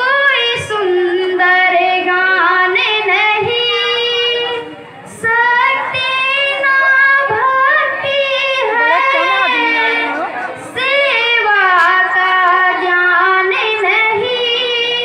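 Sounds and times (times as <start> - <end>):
girl singing into microphone: 0.0 - 15.0.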